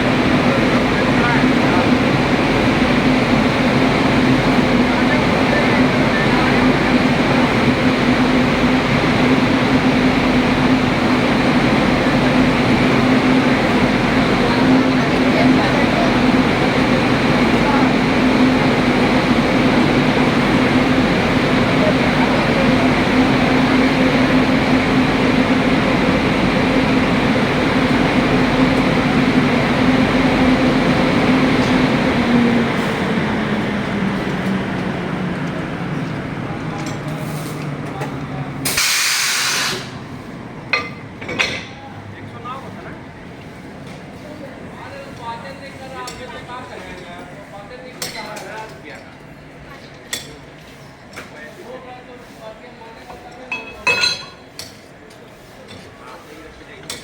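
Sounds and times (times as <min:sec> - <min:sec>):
train humming and rumbling: 0:00.0 - 0:47.9.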